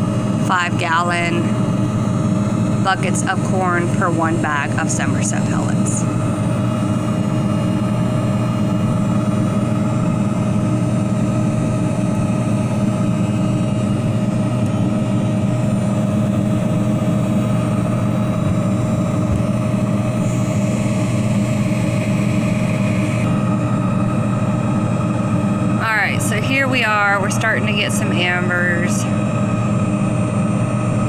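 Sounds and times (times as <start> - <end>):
furnace blower running: 0.0 - 31.0
heat gun fan whirring: 0.0 - 31.0.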